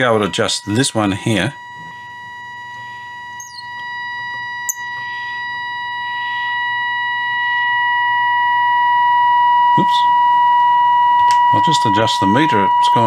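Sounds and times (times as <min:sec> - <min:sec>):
steady test tone from radio speaker: 0:00.0 - 0:13.0.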